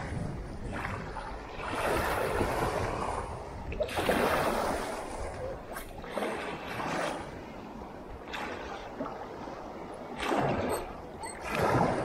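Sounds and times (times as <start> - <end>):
waves splashing against rocks: 0.0 - 12.0.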